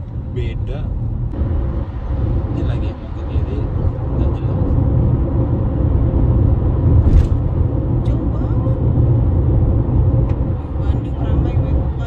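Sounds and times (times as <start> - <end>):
tyre and engine rumble: 0.0 - 12.0.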